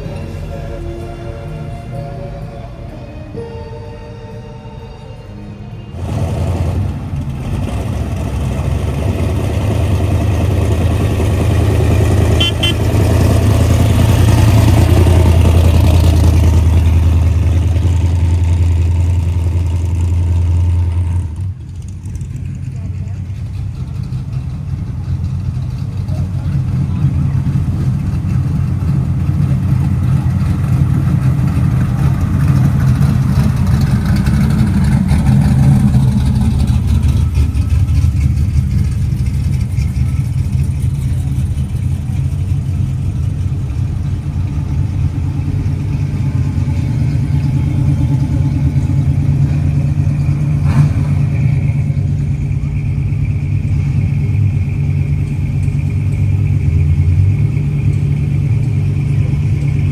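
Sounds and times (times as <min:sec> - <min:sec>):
car engines rumbling: 0:00.0 - 0:59.9.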